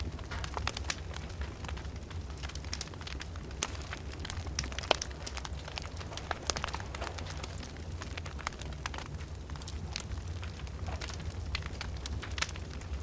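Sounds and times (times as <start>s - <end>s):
low rumble of fire: 0.0s - 13.0s
wood fire crackling: 0.0s - 13.0s.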